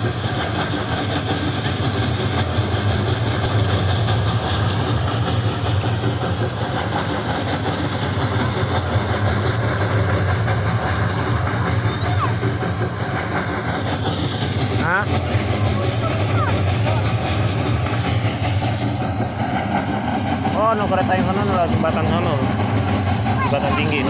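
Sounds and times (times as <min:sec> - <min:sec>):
miniature train rumbling: 0:00.0 - 0:24.0.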